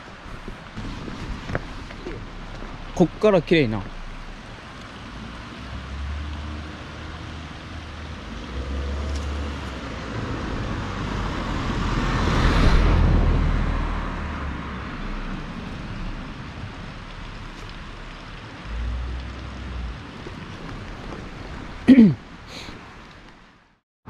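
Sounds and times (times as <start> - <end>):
car road and engine rumble: 0.0 - 23.8.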